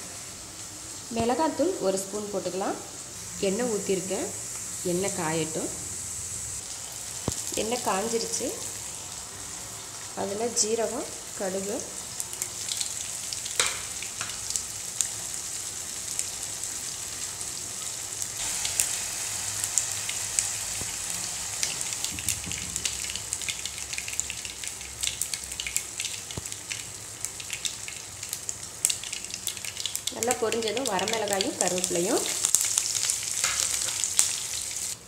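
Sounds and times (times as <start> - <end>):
seeds sizzling and popping in oil: 0.6 - 35.0.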